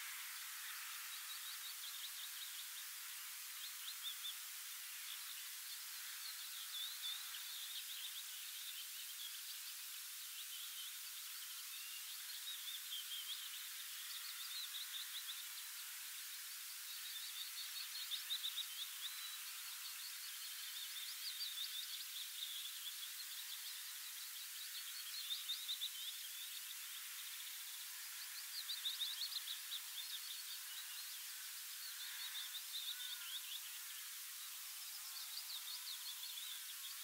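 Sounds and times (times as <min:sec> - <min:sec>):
faint steady hiss: 0:00.0 - 0:37.0
songbirds chirping and trilling: 0:00.0 - 0:37.0.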